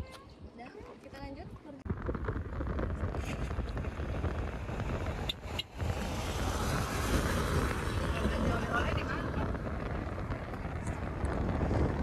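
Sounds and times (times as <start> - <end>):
road and engine rumble: 0.0 - 12.0
wind noise: 0.0 - 12.0.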